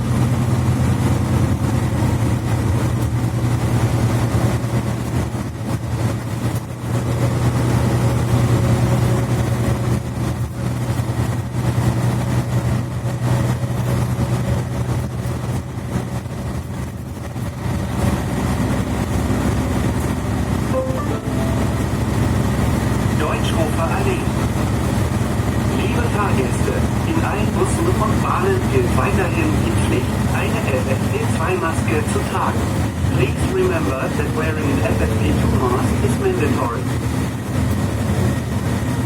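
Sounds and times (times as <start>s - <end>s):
bus engine humming: 0.0s - 39.0s.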